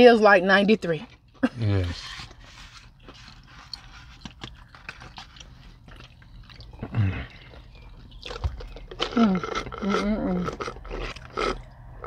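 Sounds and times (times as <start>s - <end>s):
chewing and lip-smacking: 0.8s - 12.0s.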